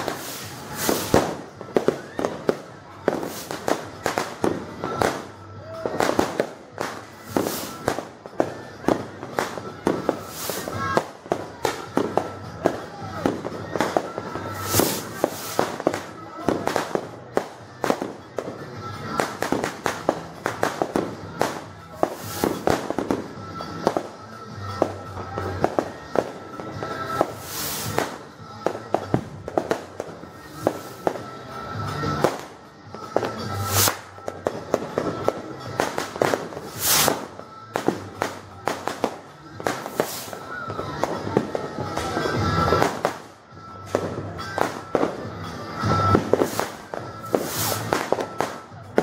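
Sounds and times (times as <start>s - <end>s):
firecrackers crackling: 0.0s - 49.0s
heavy firework blasts: 0.0s - 49.0s.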